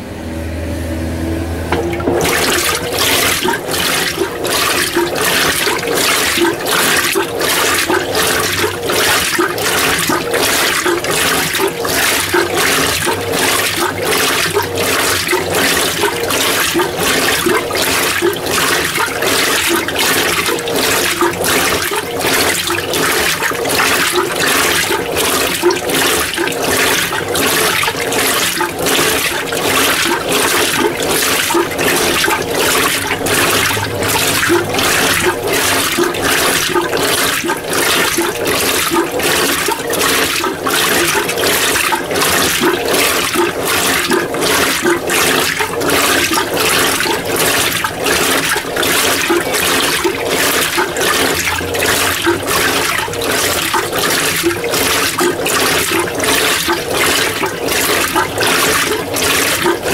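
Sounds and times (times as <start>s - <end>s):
washing machine water sloshing: 1.6s - 59.9s.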